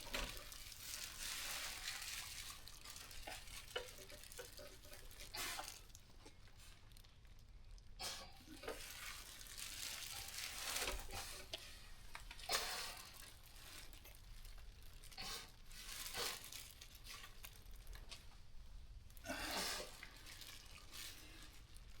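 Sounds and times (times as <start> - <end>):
hands rustling and shuffling: 0.0 - 7.0, 8.6 - 22.0.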